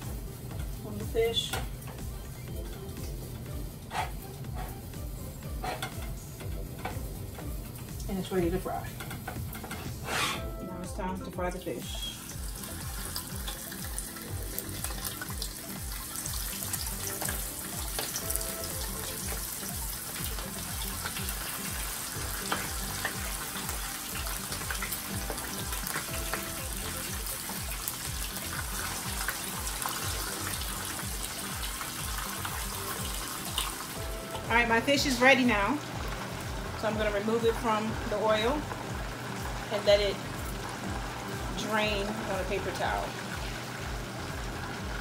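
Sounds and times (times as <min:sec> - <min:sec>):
background music with beat: 0:00.0 - 0:42.5, 0:43.1 - 0:45.0
fish sizzling in hot oil: 0:00.0 - 0:45.0.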